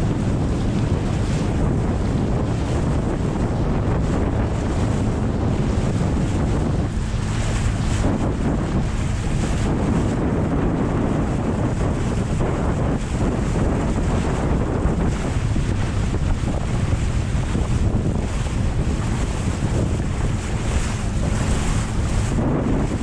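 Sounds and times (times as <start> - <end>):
water rushing: 0.0 - 23.0
wind buffeting microphone: 0.0 - 23.0.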